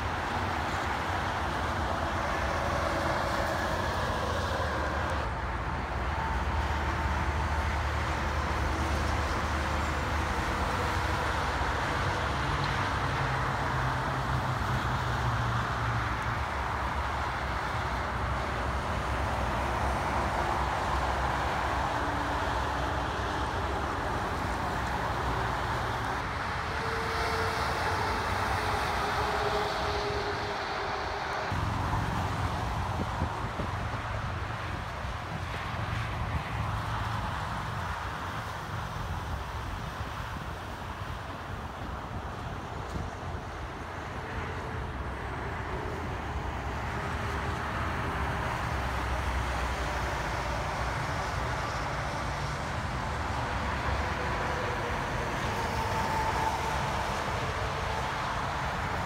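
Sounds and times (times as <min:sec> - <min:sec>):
diesel engine drone: 0:00.0 - 0:59.0
highway traffic passing: 0:00.0 - 0:59.0.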